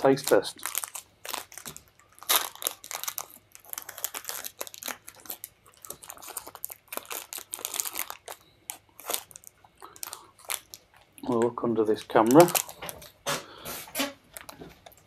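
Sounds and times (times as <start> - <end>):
wrapper crinkling and crackling: 0.0 - 15.0.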